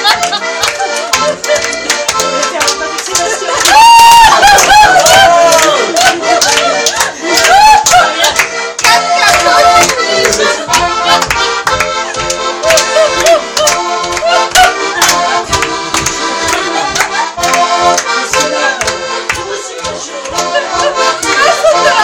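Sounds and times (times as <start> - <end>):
button accordion playing folk dance: 0.0 - 22.0.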